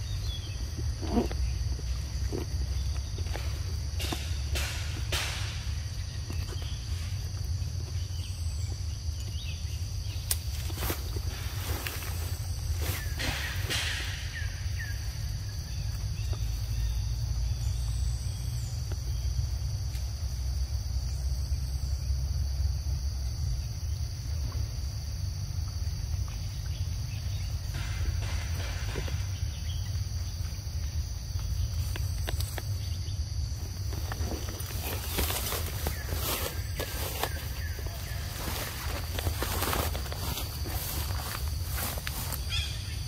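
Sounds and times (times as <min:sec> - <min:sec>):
rustles: 0:00.0 - 0:18.0, 0:26.1 - 0:43.0
insects chorus: 0:00.0 - 0:43.0.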